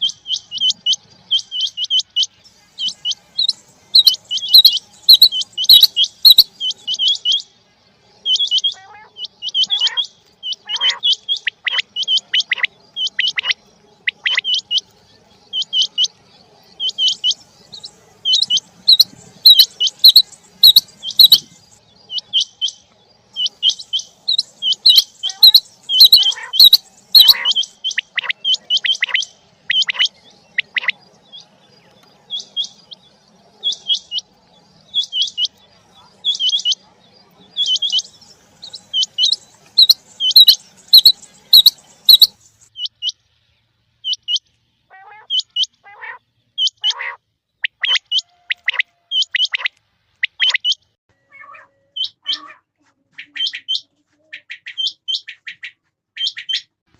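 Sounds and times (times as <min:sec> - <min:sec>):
quail calling: 0:00.0 - 0:07.6, 0:08.2 - 0:14.9, 0:15.5 - 0:16.2, 0:16.8 - 0:31.5, 0:33.6 - 0:34.3, 0:34.9 - 0:43.2, 0:44.0 - 0:56.8.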